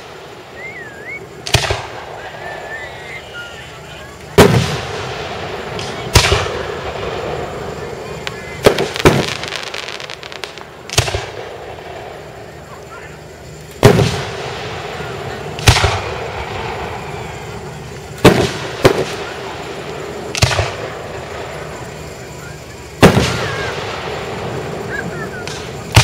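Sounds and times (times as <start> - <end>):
firework shells booming: 0.0 - 26.0.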